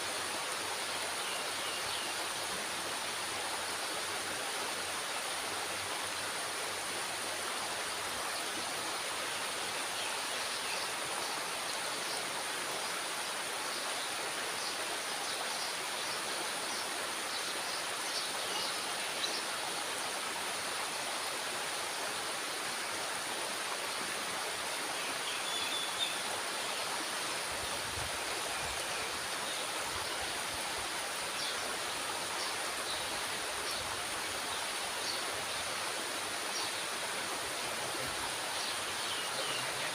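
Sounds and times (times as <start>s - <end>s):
water rushing from sluice gate: 0.0s - 39.9s.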